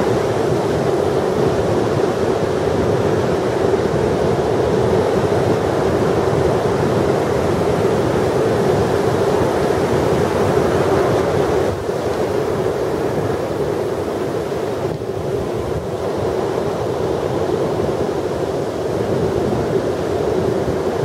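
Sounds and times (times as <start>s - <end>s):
waves breaking: 0.0s - 21.0s
wind on microphone: 0.0s - 21.0s.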